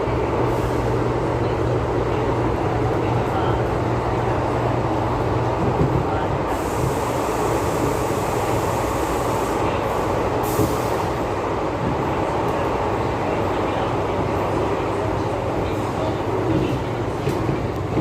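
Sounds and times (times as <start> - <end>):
electric train hum: 0.0 - 18.0.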